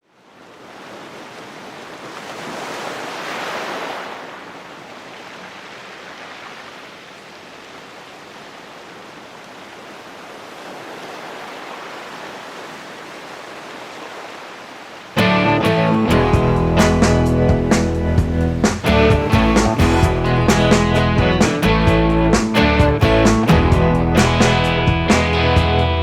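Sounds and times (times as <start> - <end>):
sea surf washing ashore: 0.1 - 26.0.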